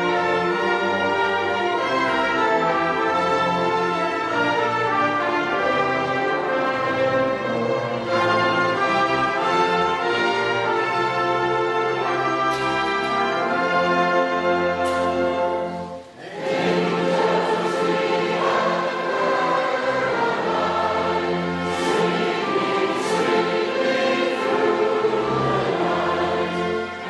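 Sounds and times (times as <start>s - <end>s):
choir singing with orchestra: 0.0s - 27.0s.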